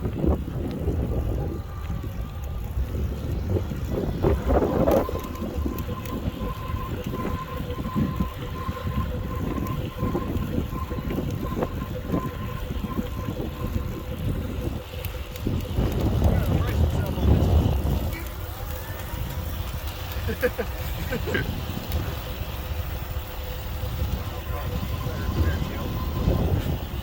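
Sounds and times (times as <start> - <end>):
thin steady whine: 0.0 - 27.0
wind buffeting microphone: 0.0 - 27.0.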